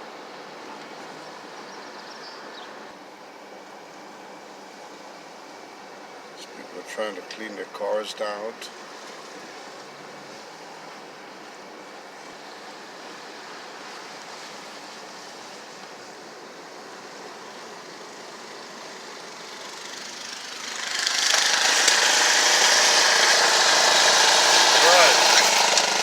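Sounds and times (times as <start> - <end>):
traffic on snowy road: 0.0 - 26.0.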